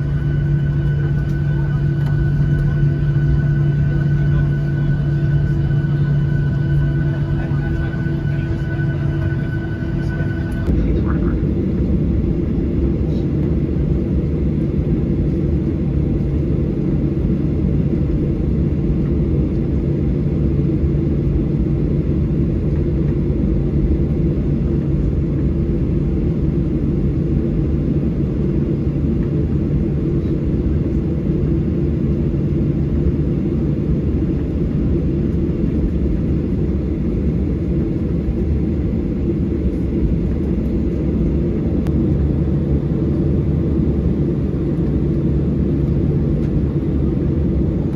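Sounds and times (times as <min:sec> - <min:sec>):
airliner engine rumble: 0:00.0 - 0:47.9
constant cabin hum: 0:00.0 - 0:47.9.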